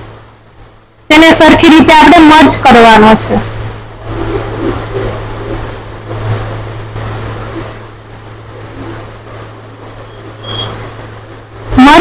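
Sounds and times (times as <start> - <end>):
low hum: 0.0 - 12.0
room noise hiss: 0.0 - 12.0.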